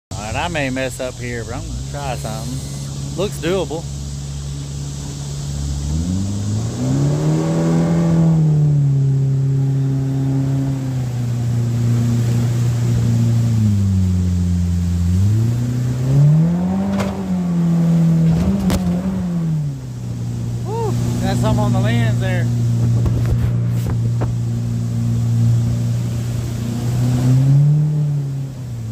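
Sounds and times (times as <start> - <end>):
outboard motor revving: 0.2 - 28.9.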